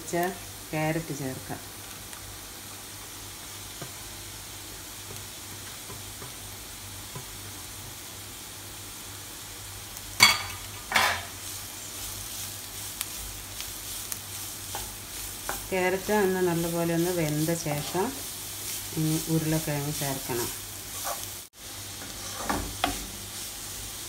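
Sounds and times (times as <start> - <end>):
vegetables sizzling in frying pan: 0.0 - 24.0.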